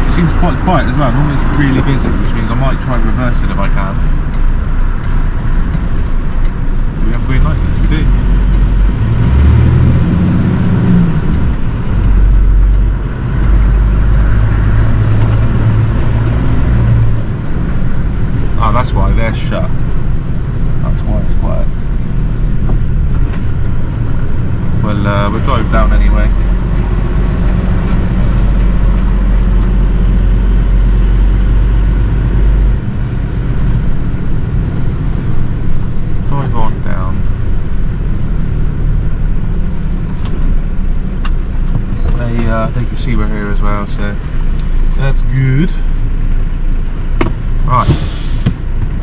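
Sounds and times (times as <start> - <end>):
road and cab noise: 0.0 - 49.0
truck diesel engine drone: 0.0 - 49.0.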